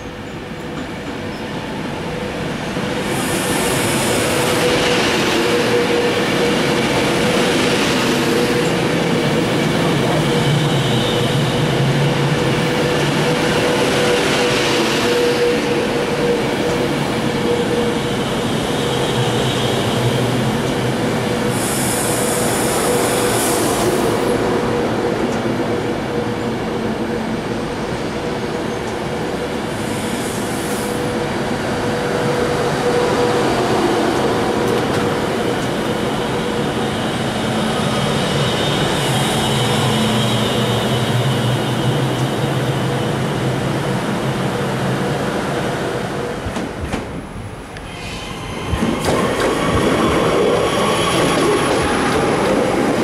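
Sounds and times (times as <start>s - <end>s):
train hum and wheel rumble: 0.0s - 53.0s.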